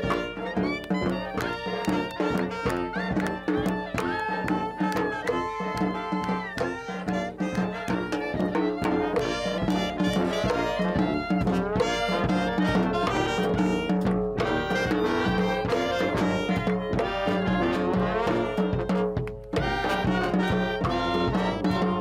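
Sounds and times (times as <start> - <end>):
bass drum beats: 0.0 - 22.0
saxophone: 0.0 - 22.0
snare drum beats: 0.0 - 22.0
trombone: 0.0 - 22.0.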